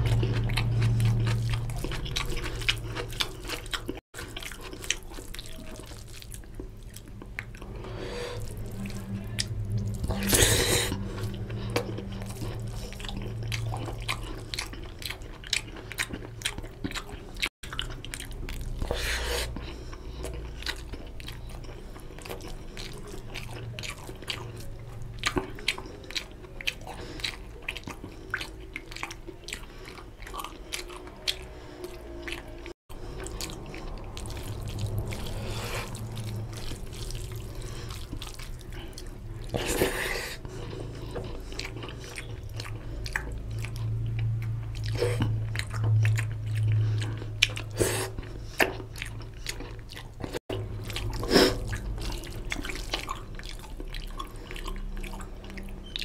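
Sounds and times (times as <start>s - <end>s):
low steady hum: 0.0s - 56.0s
wet chewing and lip smacking: 0.0s - 56.0s.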